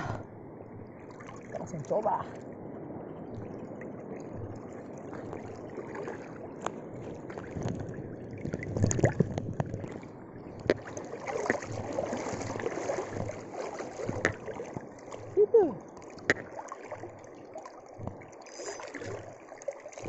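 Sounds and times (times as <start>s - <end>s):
seawater splashing around rocks: 3.3s - 20.0s.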